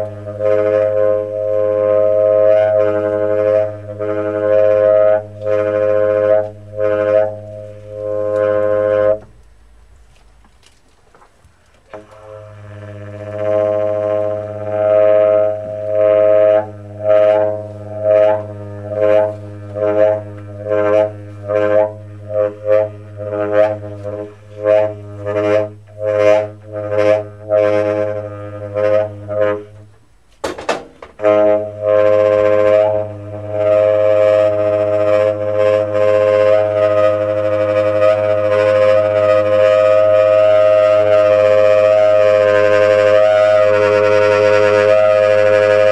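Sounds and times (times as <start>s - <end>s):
tenor saxophone drone-like playing: 0.0s - 10.4s, 11.9s - 30.3s, 31.1s - 45.9s.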